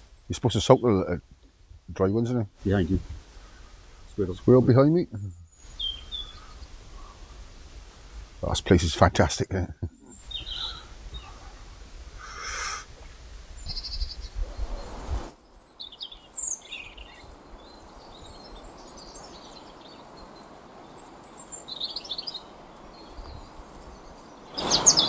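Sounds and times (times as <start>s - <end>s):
small birds chirping: 0.0s - 7.6s, 9.9s - 25.0s
soft steady hiss: 0.0s - 25.0s.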